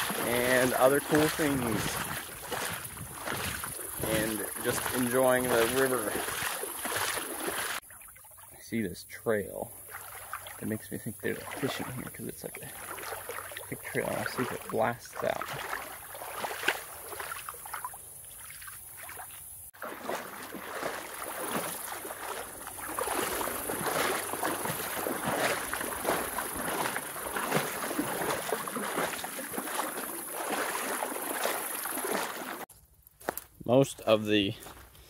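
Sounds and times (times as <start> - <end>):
feet wading through water: 0.0 - 32.7.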